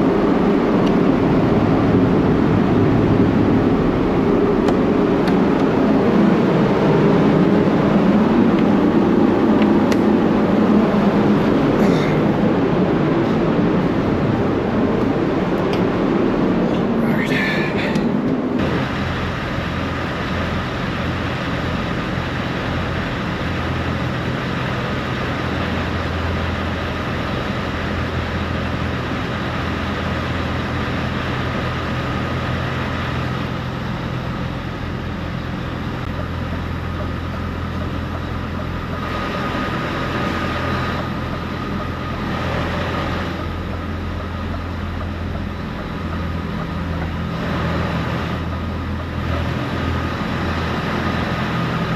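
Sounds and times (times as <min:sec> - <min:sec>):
low engine drone: 0:00.0 - 0:51.9.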